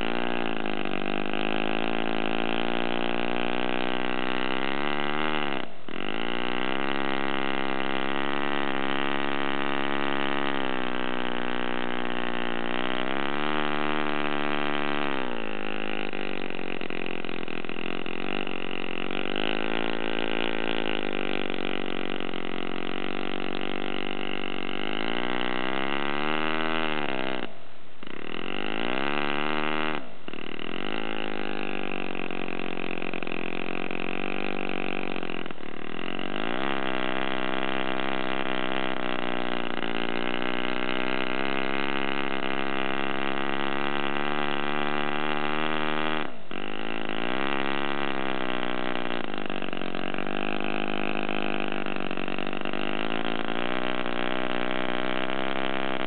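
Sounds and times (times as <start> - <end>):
model engine running: 0.0 - 56.0.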